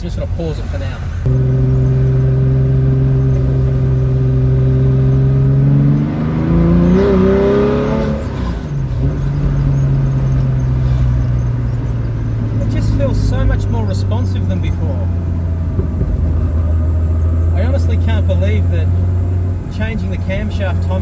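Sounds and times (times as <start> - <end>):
car engine running: 0.4 - 21.0.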